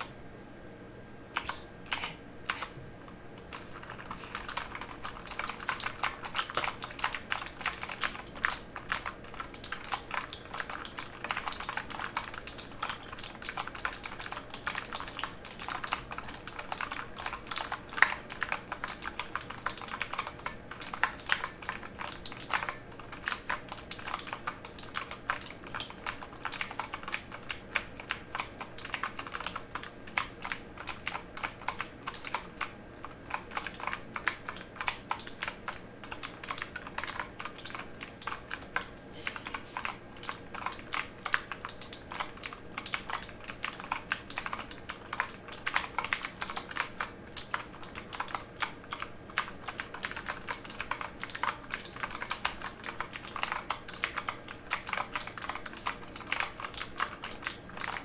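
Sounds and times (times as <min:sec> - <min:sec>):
mechanical keyboard typing: 0:01.4 - 0:02.8, 0:03.4 - 0:58.0.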